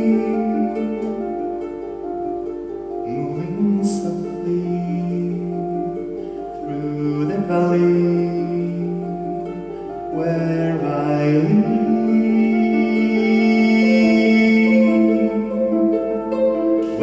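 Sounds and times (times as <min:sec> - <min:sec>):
harp plucked notes: 0:00.0 - 0:17.0.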